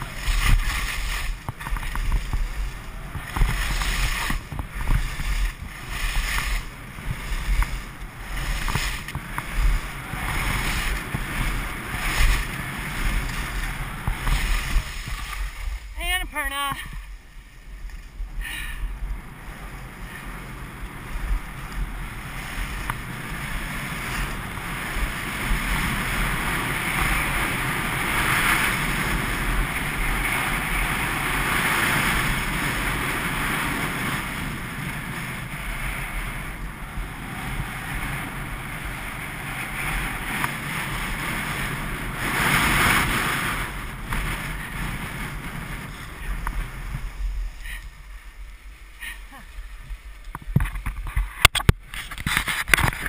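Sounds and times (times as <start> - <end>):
skis scraping over snow: 0.0 - 53.0
wind on microphone: 0.0 - 53.0.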